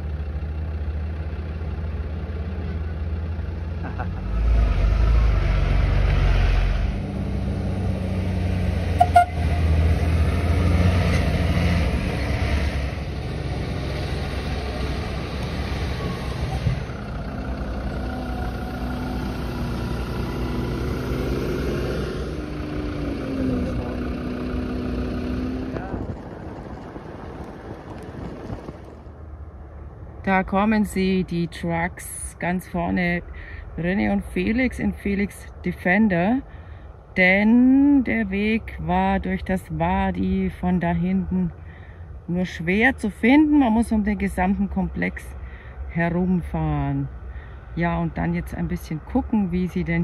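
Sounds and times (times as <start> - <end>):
truck diesel engines droning: 0.0 - 50.0.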